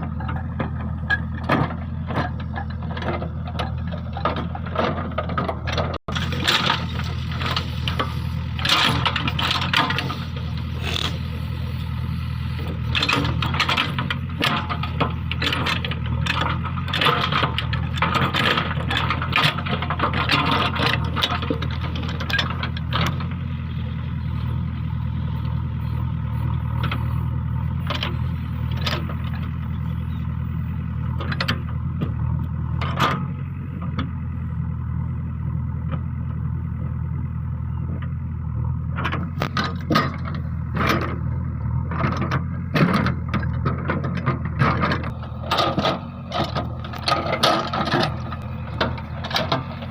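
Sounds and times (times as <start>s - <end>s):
scraping and clanking on road: 0.0s - 34.7s, 37.7s - 49.9s
backhoe diesel engine running: 0.0s - 49.9s.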